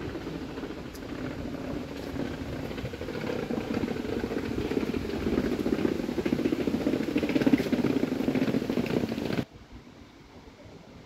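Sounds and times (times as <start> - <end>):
electric train rumbling: 0.0 - 10.3.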